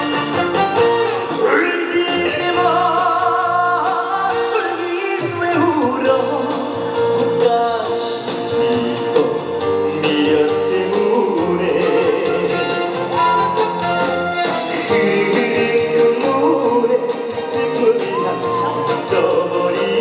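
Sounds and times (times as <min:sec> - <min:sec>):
song instrumental over loudspeakers: 0:00.0 - 0:20.0.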